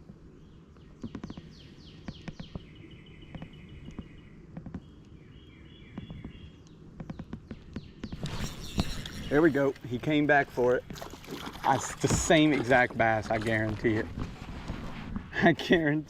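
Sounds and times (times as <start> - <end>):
birds calling: 0.1 - 14.3.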